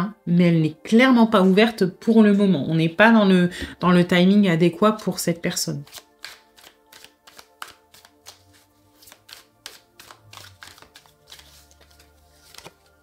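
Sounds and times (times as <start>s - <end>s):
soft sustained background music: 0.0s - 13.0s.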